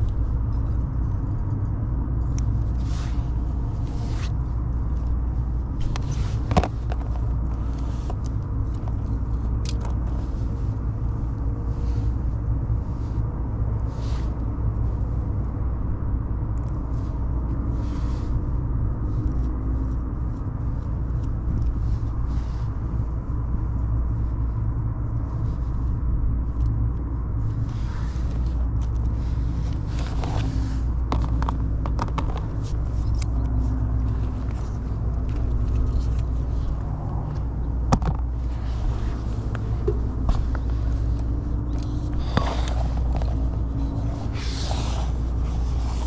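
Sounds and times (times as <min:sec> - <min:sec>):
low mechanical rumble: 0:00.0 - 0:46.0.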